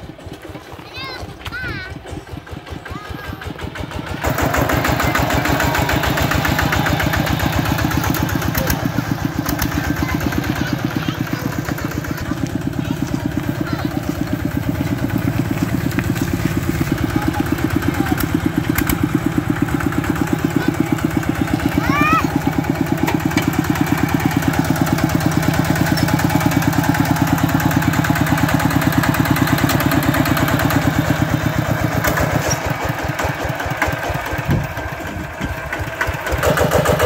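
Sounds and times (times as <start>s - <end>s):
walking tractor diesel engine: 0.0s - 37.0s.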